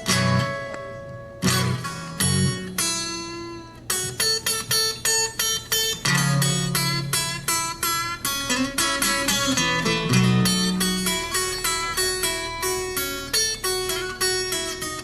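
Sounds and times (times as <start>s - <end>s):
fingerpicked acoustic guitar blues: 0.0s - 15.0s.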